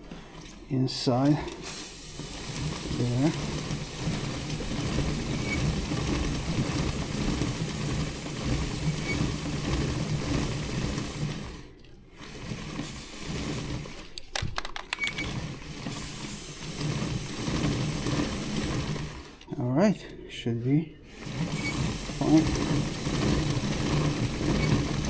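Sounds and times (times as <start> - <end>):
chain whirring and ratcheting: 0.0 - 19.5, 21.1 - 25.0.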